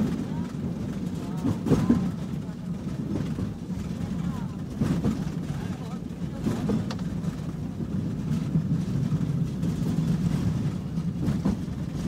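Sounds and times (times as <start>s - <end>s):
tram rumbling: 0.0s - 12.0s.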